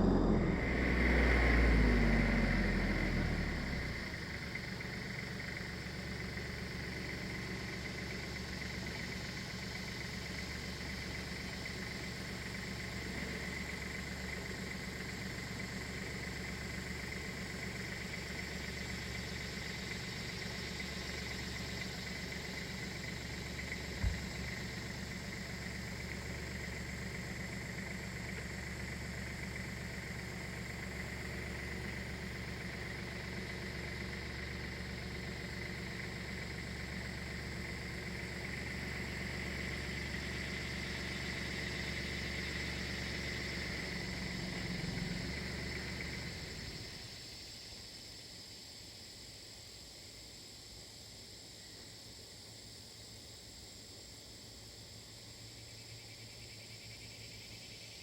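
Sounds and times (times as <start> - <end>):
small engine idling: 0.0 - 49.1, 50.3 - 58.0.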